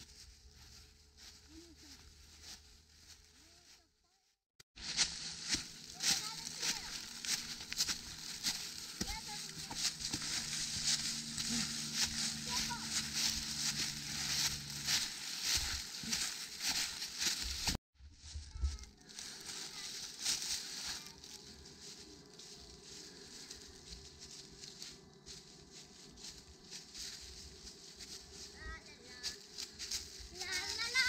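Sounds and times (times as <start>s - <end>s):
footsteps crunching through dry leaves: 0.0s - 3.9s, 4.8s - 31.0s.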